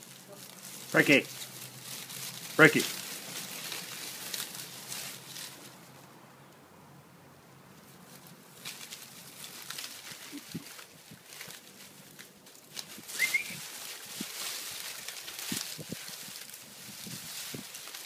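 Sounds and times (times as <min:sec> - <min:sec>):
rustling of leafy plants: 0:00.0 - 0:06.6, 0:07.4 - 0:18.0.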